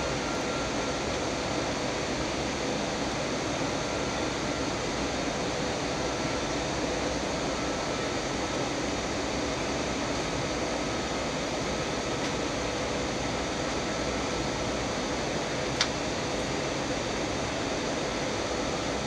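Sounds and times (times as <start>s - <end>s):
airflow and jet engines: 0.0s - 19.0s.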